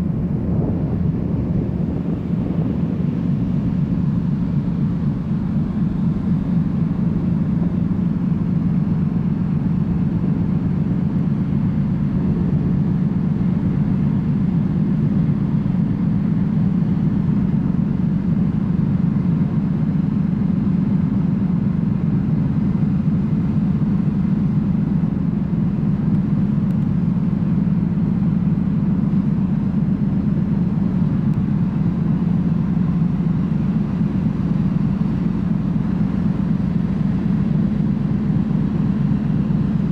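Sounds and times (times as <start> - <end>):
ferry engine rumble: 0.0 - 39.9.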